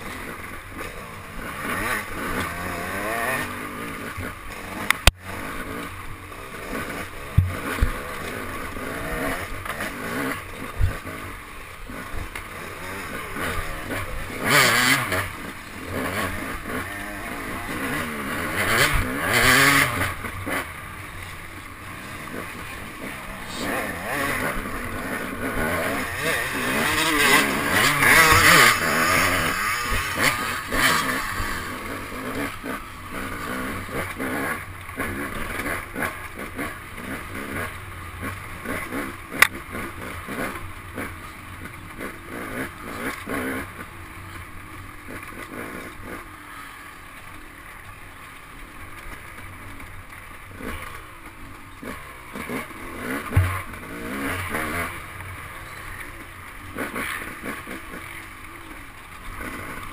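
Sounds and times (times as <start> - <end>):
dirt bike engine revving: 0.0 - 48.2, 48.9 - 59.9.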